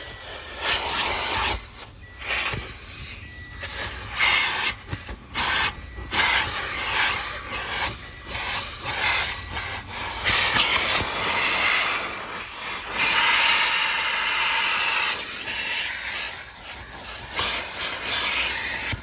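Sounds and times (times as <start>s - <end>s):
vacuum hose nozzle sucking air: 0.0s - 19.0s.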